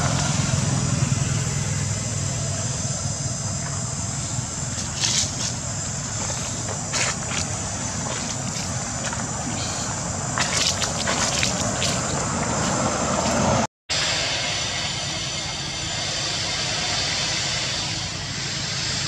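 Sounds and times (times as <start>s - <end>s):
hiss: 0.0s - 19.0s.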